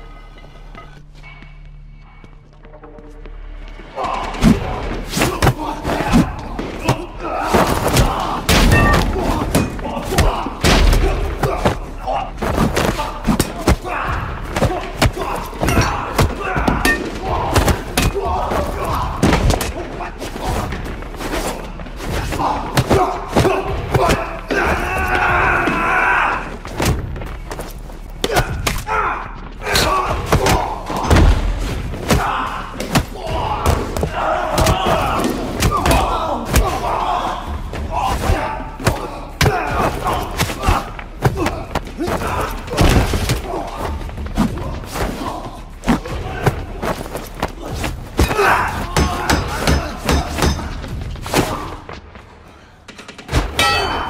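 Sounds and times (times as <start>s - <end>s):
punch and kick impacts: 4.4s - 52.1s.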